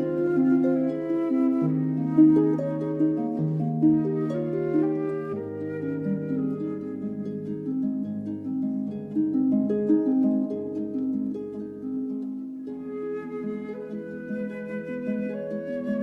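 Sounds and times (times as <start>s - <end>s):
plucked string melody: 0.0s - 16.0s.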